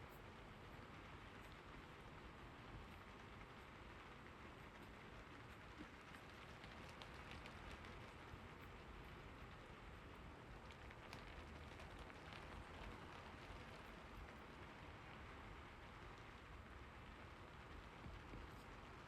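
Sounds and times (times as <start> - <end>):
steady rain hiss: 0.0 - 19.0
raindrops ticking: 0.2 - 19.0.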